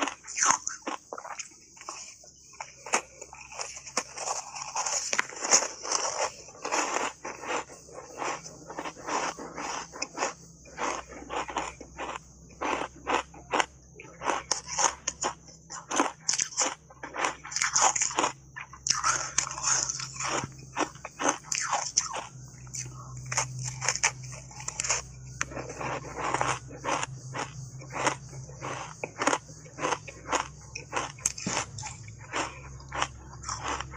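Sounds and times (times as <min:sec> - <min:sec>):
ice crunching while chewed: 0:00.0 - 0:33.9.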